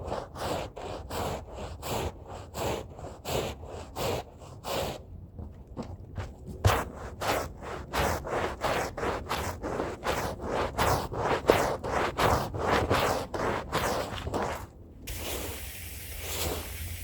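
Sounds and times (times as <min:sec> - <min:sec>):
stiff brush scrubbing a rug: 0:00.0 - 0:05.5, 0:06.4 - 0:17.0.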